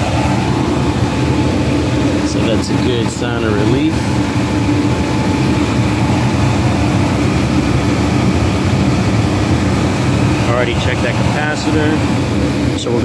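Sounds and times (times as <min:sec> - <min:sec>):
gas furnace running: 0:00.0 - 0:13.0.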